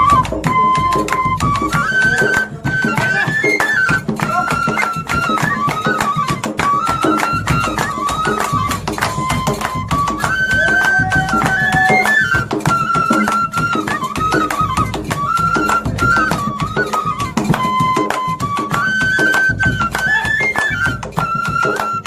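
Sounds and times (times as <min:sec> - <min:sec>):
drum beating fast rhythm: 0:00.0 - 0:22.0
lower melody line: 0:00.0 - 0:22.0
piping wind instrument melody: 0:00.0 - 0:22.0.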